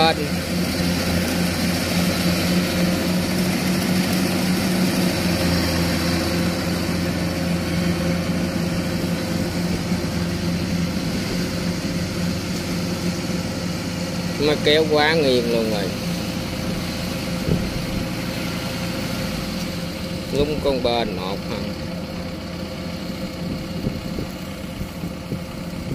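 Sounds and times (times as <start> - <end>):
diesel engine running steadily: 0.0 - 25.9.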